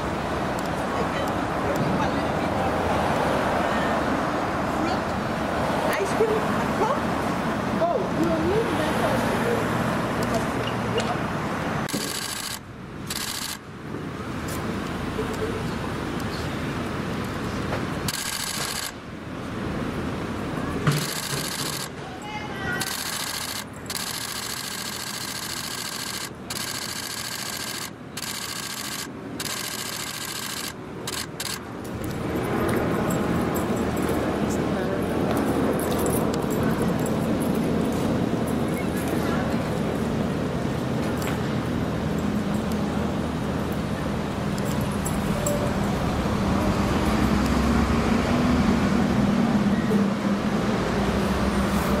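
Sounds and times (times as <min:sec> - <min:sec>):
urban traffic noise: 0:00.0 - 0:52.0.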